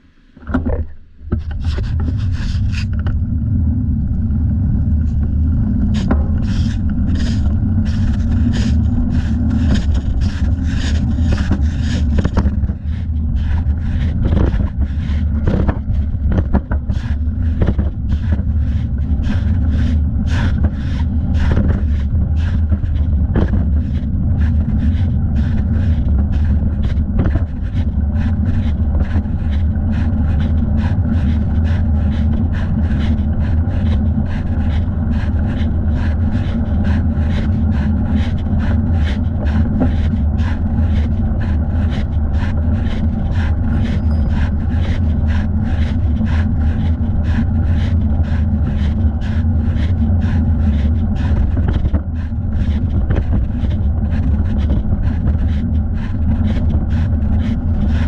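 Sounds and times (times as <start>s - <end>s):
wind buffeting microphone: 0.7s - 58.0s
bicycle tyre noise: 1.3s - 58.0s.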